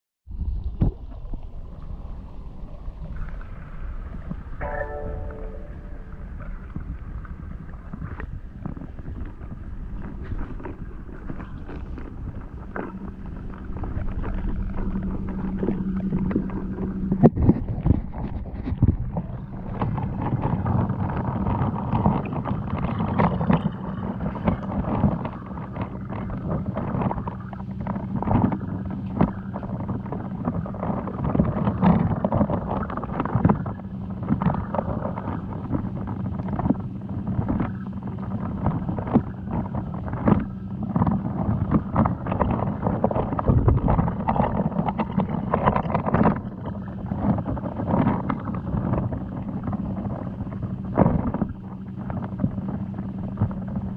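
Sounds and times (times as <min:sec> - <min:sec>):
low hum: 0:00.3 - 0:53.9
water sound: 0:00.3 - 0:53.9.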